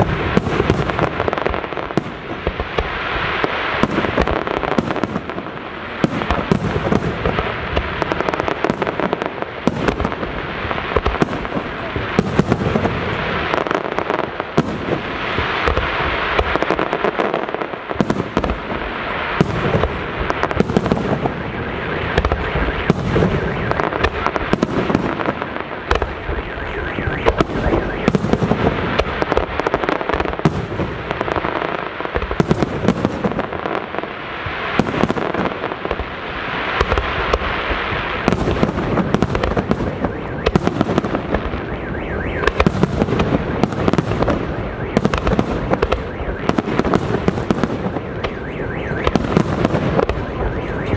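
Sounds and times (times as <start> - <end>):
fireworks bangs: 0.0 - 50.9
fireworks crackling: 0.0 - 50.9.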